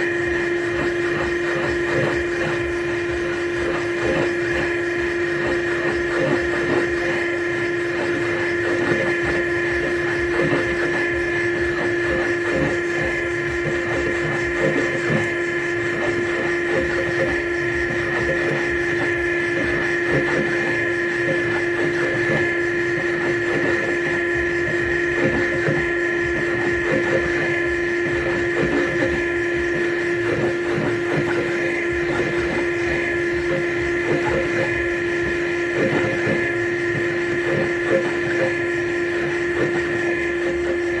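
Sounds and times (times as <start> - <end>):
cutter chattering on metal: 0.0 - 41.0
machine spindle whining: 0.0 - 41.0.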